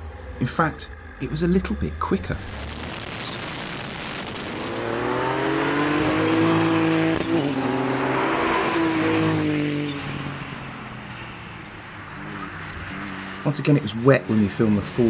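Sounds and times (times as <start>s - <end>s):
car engine accelerating: 0.0s - 15.0s
tyres hissing on wet road: 2.5s - 15.0s.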